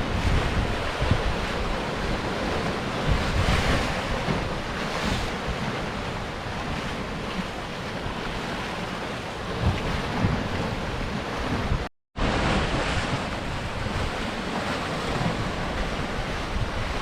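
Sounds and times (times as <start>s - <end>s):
sea surf breaking over rocks: 0.0s - 17.0s
wind buffeting microphone: 0.0s - 17.0s.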